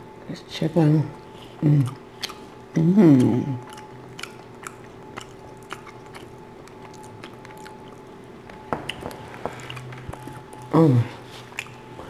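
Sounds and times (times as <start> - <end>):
faint steady hum: 0.0 - 12.0
close chewing mouth clicks: 1.2 - 12.0.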